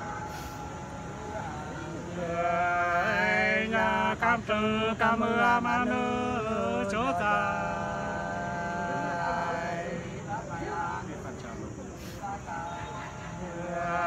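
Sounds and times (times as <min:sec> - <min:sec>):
two men singing unaccompanied: 0:00.0 - 0:14.0.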